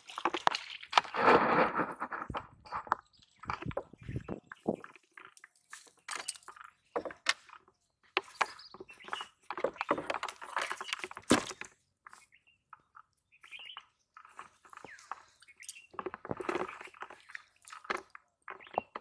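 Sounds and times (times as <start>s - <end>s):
fish handling clicks and rustles: 0.0s - 19.0s.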